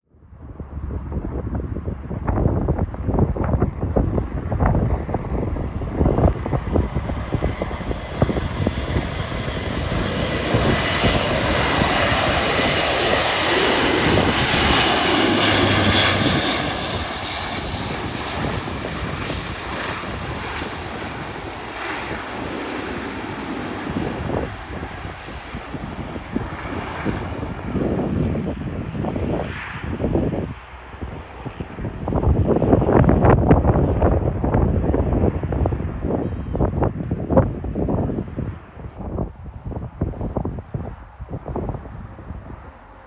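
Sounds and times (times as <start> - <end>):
wind buffeting microphone: 0.1 - 43.0
turboprop aircraft passing overhead: 0.2 - 43.0.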